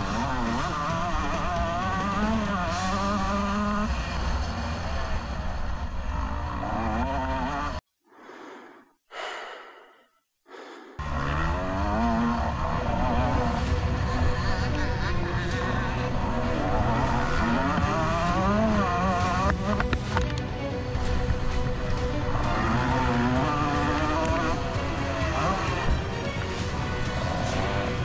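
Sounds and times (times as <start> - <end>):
motorbike engines revving: 0.0 - 7.8, 11.0 - 28.0.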